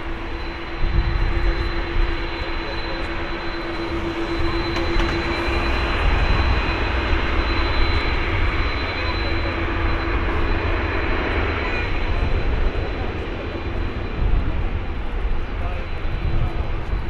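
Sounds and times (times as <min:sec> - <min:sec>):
jet engine whine: 0:00.0 - 0:17.0.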